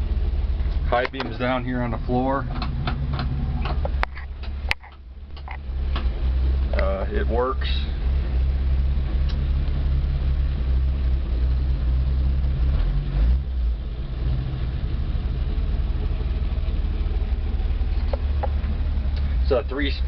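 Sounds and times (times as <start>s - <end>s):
pickup truck engine idling: 0.0s - 20.0s.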